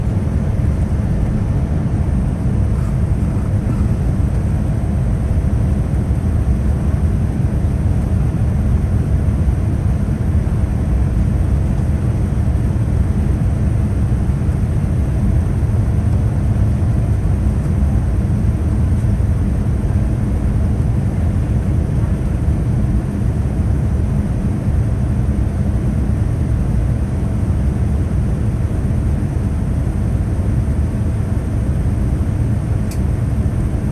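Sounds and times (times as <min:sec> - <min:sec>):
airplane cabin rumble: 0:00.0 - 0:33.9
faint steady hum: 0:00.0 - 0:33.9.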